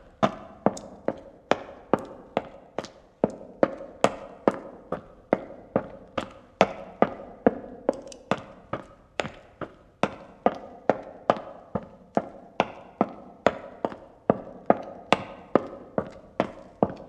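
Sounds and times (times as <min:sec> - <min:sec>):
footsteps indoors with echo: 0:00.0 - 0:17.0.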